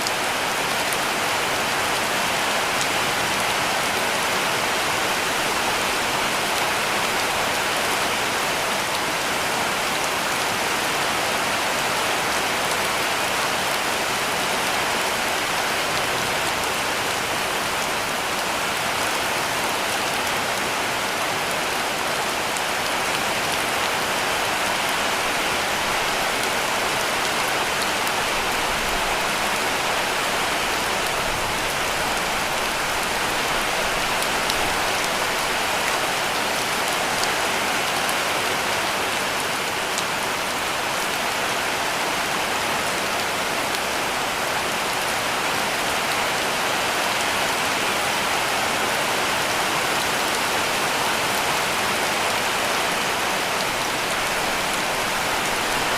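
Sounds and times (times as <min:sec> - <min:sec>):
heavy rain on a roof: 0:00.0 - 0:55.9.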